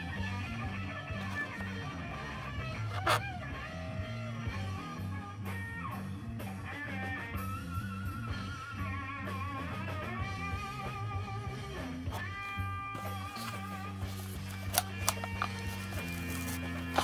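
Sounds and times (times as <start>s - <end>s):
guitar background music: 0.0s - 17.0s.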